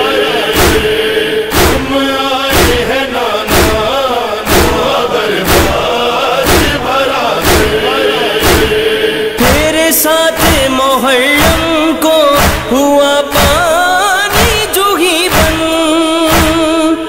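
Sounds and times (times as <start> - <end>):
chest-beating thuds: 0.0 - 16.7
voices chanting together: 0.0 - 17.0.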